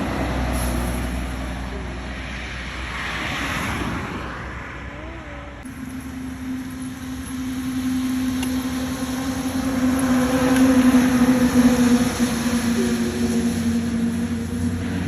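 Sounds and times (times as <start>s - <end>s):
vehicle motor humming: 0.0s - 15.0s.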